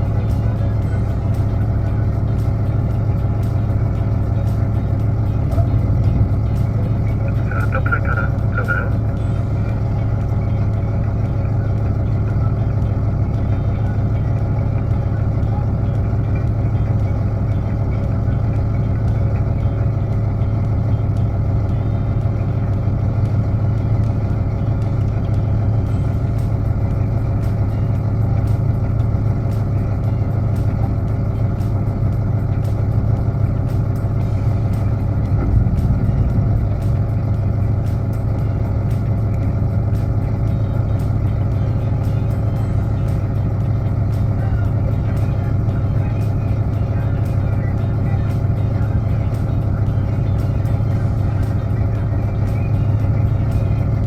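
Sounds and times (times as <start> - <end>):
engine low hum: 0.0 - 54.0.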